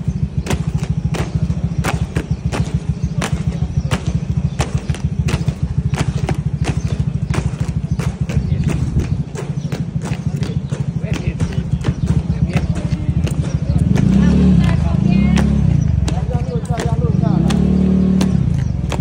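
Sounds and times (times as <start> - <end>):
boots marching on stone: 0.0 - 19.0.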